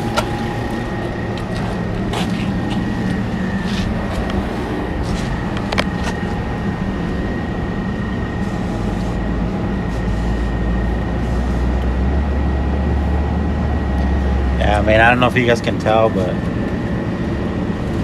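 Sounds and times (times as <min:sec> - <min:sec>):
high whine: 0:00.0 - 0:18.0
machinery noise: 0:00.0 - 0:18.0.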